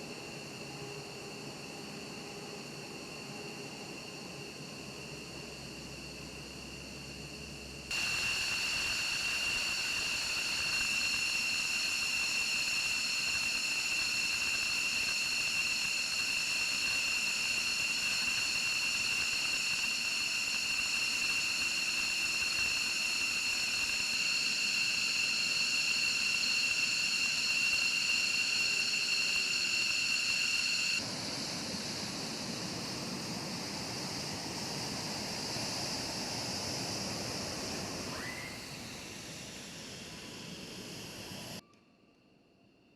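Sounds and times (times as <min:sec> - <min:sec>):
jet engine turbine whine: 0:00.0 - 0:41.6.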